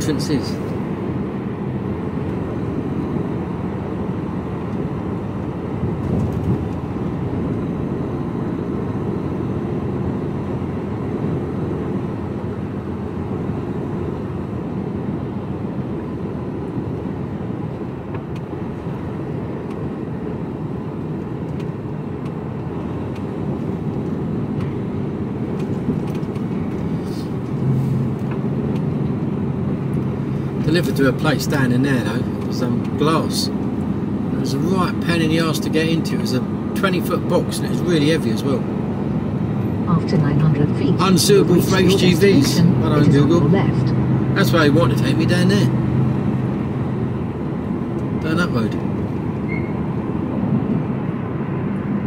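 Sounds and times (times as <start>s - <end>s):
diesel lorry engine: 0.0s - 52.0s
road noise: 0.0s - 52.0s.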